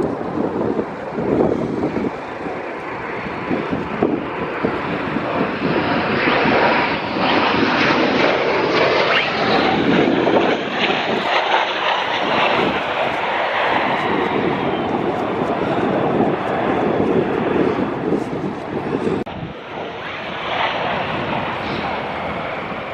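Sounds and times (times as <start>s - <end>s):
fighter jet engines roaring: 0.0s - 22.9s.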